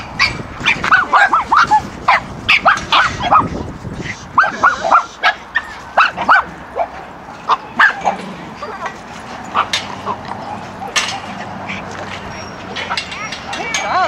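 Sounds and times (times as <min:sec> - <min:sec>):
dogs barking and yapping: 0:00.0 - 0:14.0.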